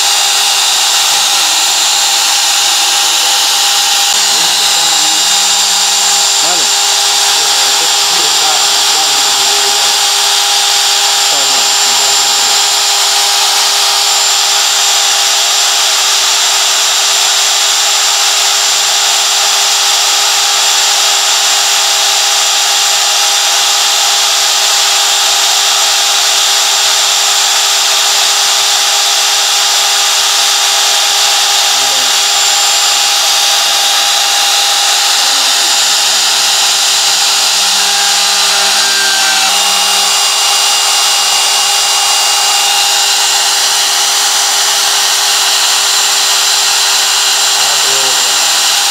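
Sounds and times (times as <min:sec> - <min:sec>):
router spindle whining while cutting: 0:00.0 - 0:48.9.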